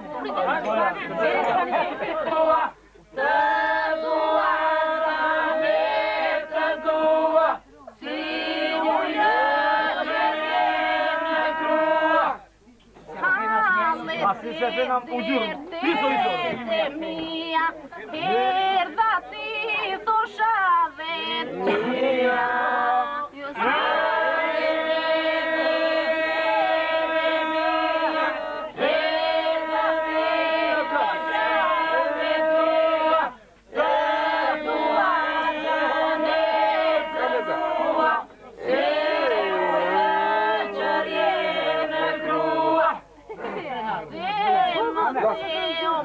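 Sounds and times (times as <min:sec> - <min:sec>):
group singing unaccompanied: 0:00.0 - 0:12.5, 0:13.2 - 0:46.0.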